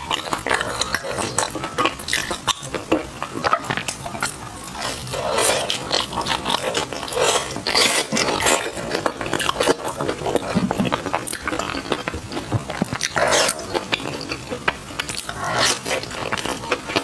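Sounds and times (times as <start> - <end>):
close chewing with wet smacking: 0.0 - 17.0.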